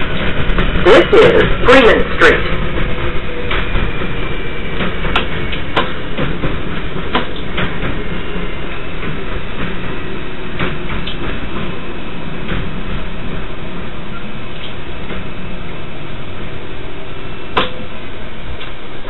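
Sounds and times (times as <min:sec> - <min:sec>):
train wheels rumbling: 0:00.0 - 0:19.0
wheels clicking over rail joints: 0:00.0 - 0:19.0.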